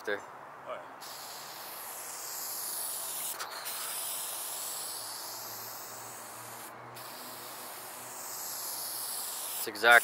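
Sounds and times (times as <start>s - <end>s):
spray paint can hissing: 1.0s - 10.0s.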